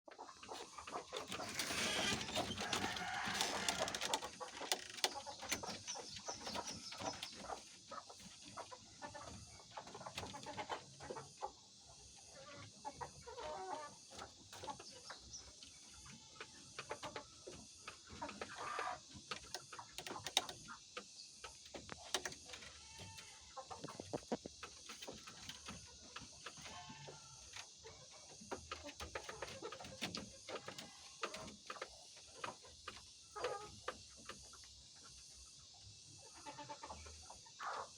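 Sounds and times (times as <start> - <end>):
hens clucking: 0.1 - 37.9.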